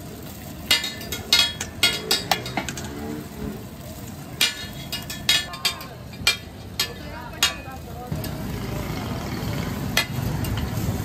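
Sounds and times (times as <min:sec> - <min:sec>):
food sizzling: 0:00.0 - 0:11.0
spatula scraping metal griddle: 0:00.7 - 0:11.0.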